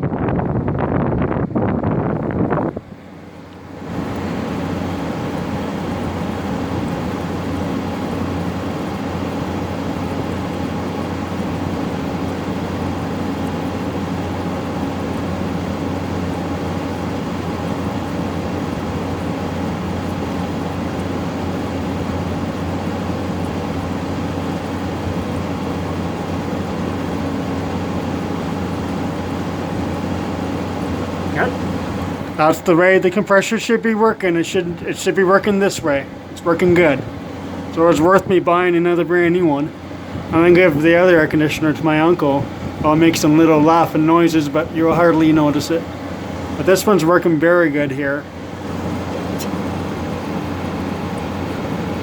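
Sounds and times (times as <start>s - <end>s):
air conditioner humming: 0.0s - 52.0s.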